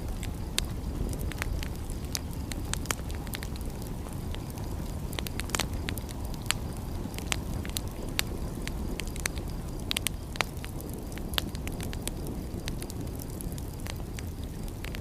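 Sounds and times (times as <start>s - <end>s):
fire popping: 0.0s - 15.0s
wood fire crackling: 0.0s - 15.0s.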